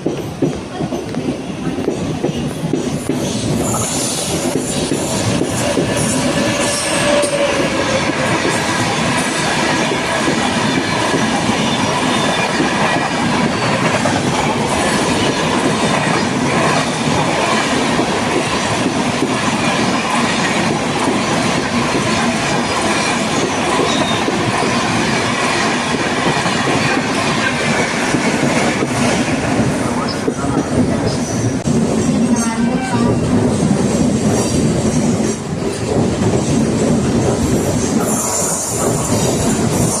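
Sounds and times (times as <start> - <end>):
train rushing past: 0.0 - 40.0
train wheels clattering on rails: 0.0 - 40.0.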